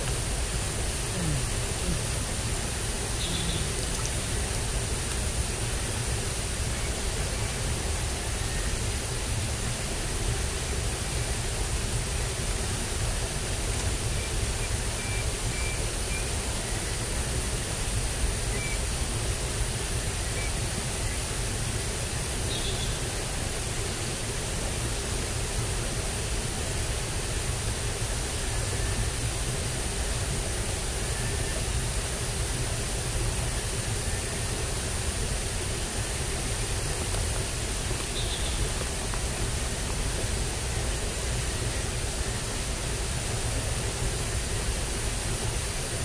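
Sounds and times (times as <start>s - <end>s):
high hiss: 0.0s - 46.0s.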